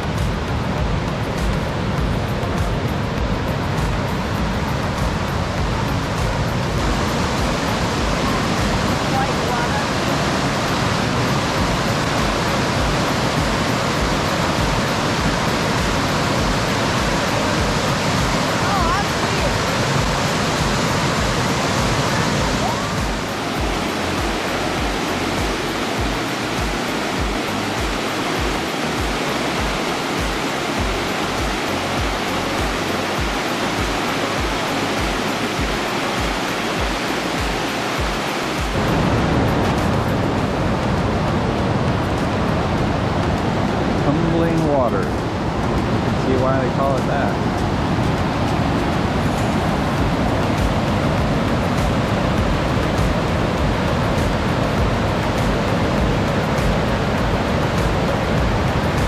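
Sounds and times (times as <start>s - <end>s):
creek water rushing over rocks: 0.0s - 59.0s.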